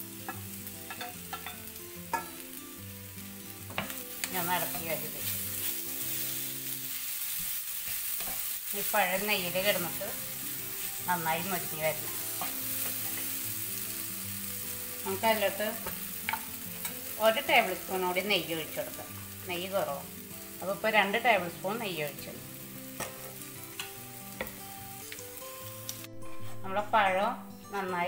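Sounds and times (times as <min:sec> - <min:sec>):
background music with wavering melody: 0:00.0 - 0:28.0
banana pieces sizzling in a pan: 0:00.0 - 0:28.0.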